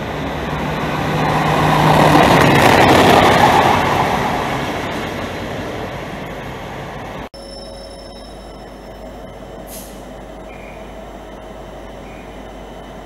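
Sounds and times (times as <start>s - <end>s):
train wheel rumble: 0.0s - 7.3s, 8.3s - 13.0s
diesel locomotive engine drone: 0.0s - 13.0s.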